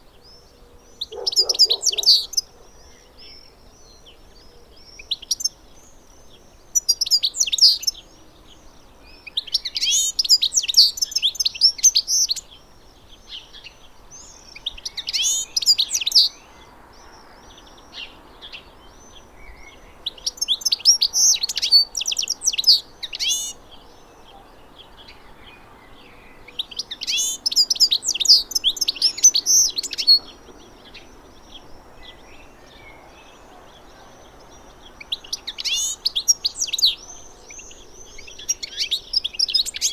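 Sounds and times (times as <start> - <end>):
finch twittering song: 0.0 - 39.9
soft bird chirps: 0.0 - 39.9.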